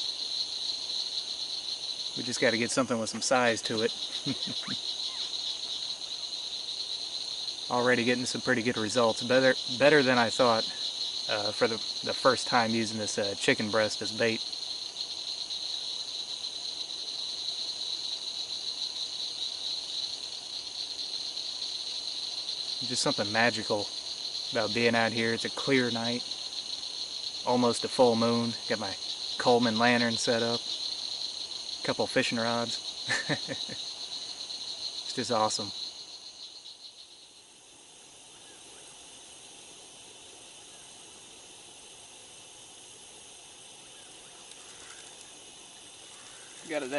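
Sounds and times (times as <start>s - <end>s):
crickets chirping: 0.0s - 46.9s
faint outdoor background hiss: 0.0s - 46.9s
insects trilling: 0.0s - 46.9s.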